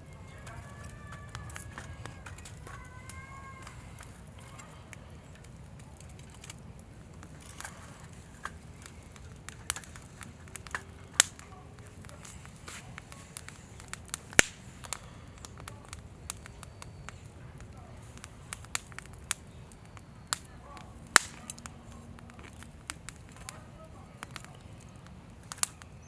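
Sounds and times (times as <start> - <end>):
campfire crackling: 0.0 - 26.0
sharp wood pops: 0.9 - 26.0.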